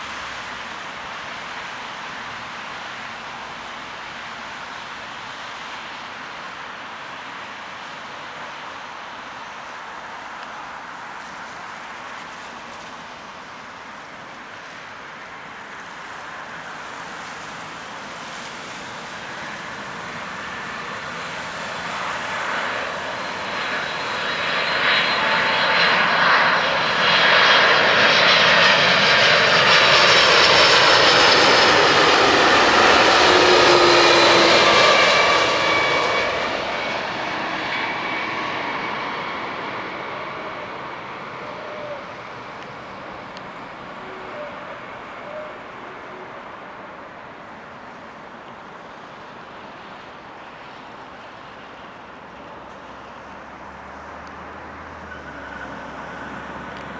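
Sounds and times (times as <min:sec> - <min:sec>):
jet airliner landing: 0:00.0 - 0:56.9.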